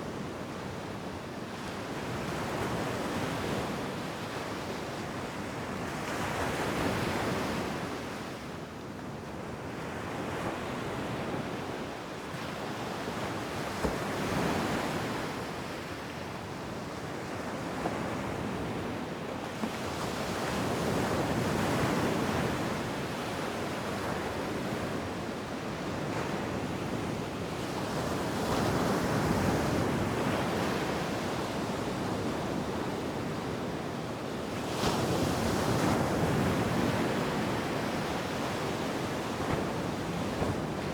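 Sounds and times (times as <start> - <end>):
wind: 0.0 - 40.9.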